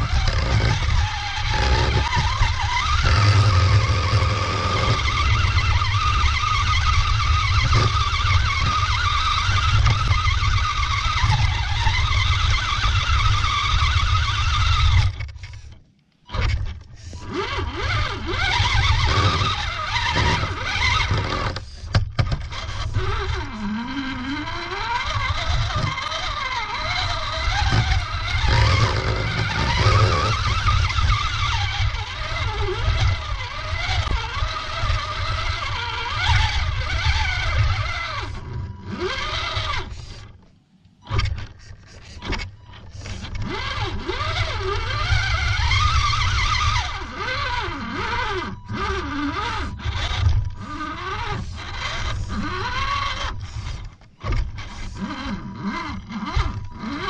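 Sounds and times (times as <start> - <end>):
rc car motor whining: 0.0 - 57.0.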